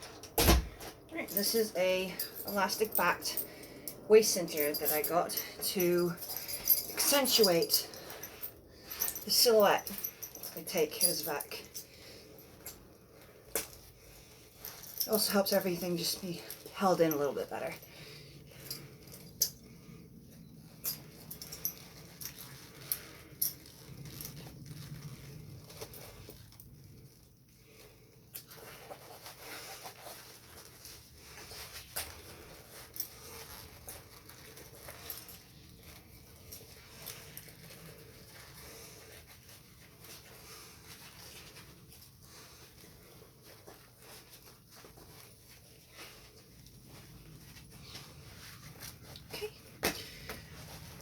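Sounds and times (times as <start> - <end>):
fabric rustling: 0.0 - 51.0.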